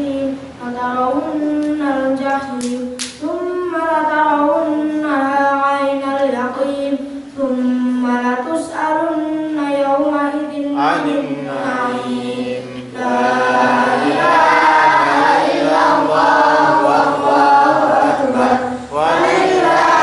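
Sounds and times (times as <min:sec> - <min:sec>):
boy chanting into a microphone: 0:00.0 - 0:20.0.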